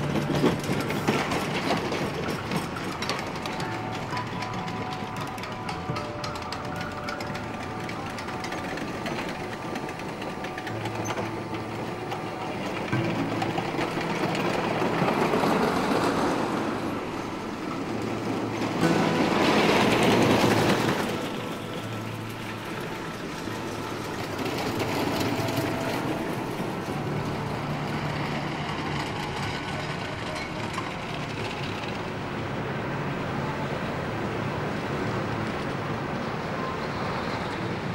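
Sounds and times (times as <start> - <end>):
roller coaster rumbling and clattering: 0.0 - 37.9.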